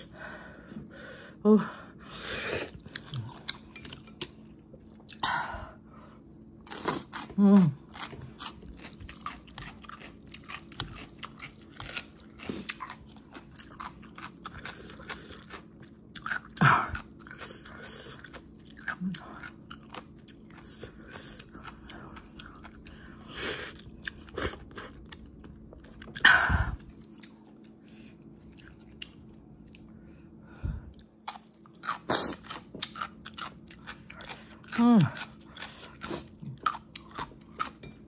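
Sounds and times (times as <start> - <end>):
chewing crunchy food: 2.7 - 5.2, 6.2 - 30.0, 30.9 - 38.0.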